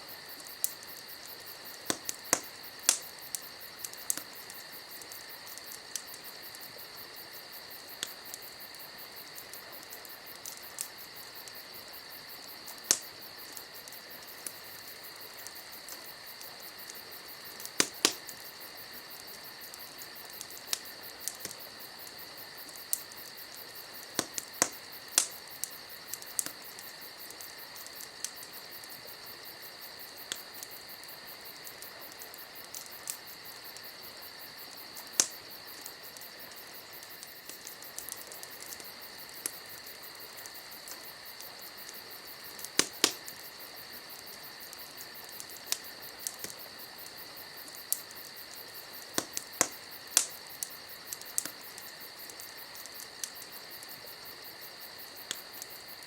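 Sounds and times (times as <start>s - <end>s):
campfire popping and crackling: 0.0s - 56.0s
crickets chirping: 0.0s - 56.0s.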